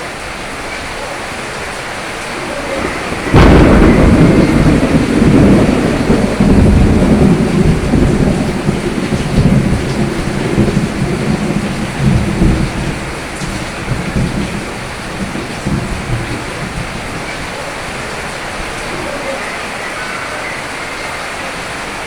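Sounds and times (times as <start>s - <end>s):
steady rain: 0.0s - 22.0s
low rumble of thunder: 1.3s - 20.8s
thunderclap: 1.6s - 20.8s.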